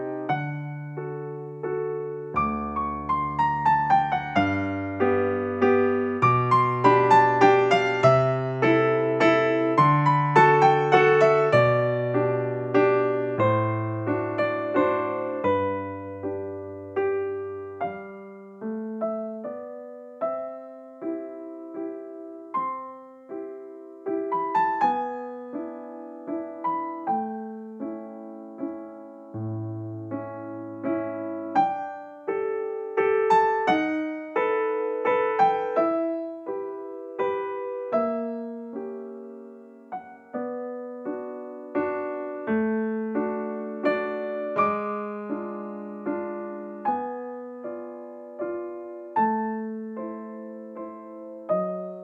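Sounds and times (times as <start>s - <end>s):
keyboard melody: 0.0s - 52.0s.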